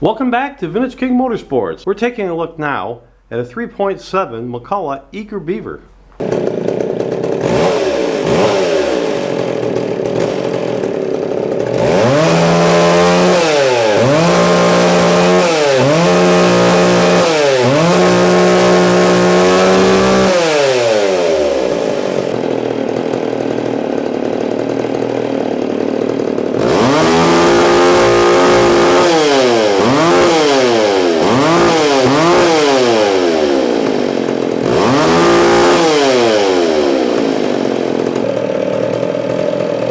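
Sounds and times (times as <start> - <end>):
chainsaw idling and revving: 6.2 - 39.9.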